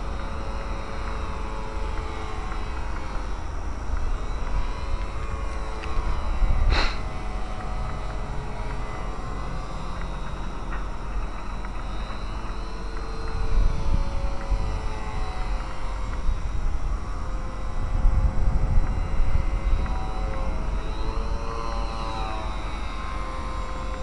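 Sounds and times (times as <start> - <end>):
model plane motor whining: 0.0 - 24.0
wind rumble on microphone: 0.0 - 24.0.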